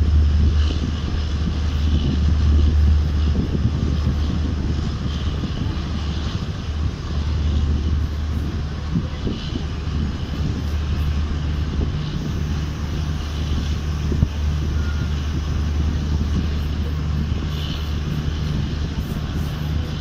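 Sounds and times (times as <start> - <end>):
train rumbling at speed: 0.0 - 20.0
wind noise: 0.0 - 20.0.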